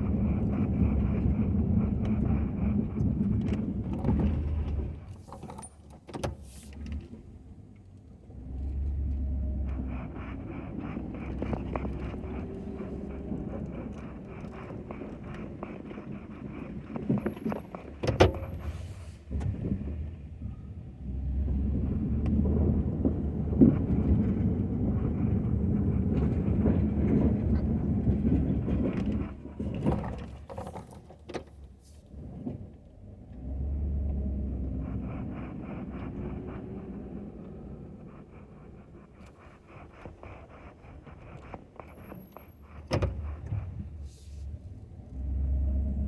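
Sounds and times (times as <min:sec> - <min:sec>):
truck engine running: 0:06.7 - 0:30.8, 0:31.5 - 0:46.0.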